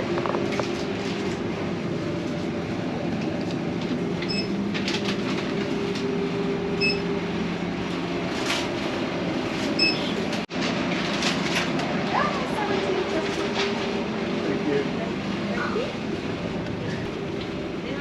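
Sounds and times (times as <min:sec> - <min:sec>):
ferry engines droning: 0:00.0 - 0:18.0.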